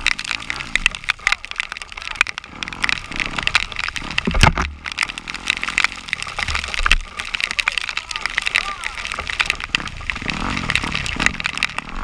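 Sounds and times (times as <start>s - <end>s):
heavy rain striking camera: 0.0s - 12.0s
vehicle engine revving: 0.0s - 12.0s.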